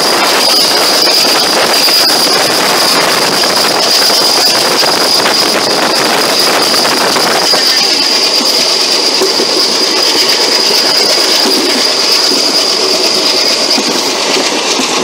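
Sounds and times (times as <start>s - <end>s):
train wind and wheels rushing: 0.0s - 15.0s.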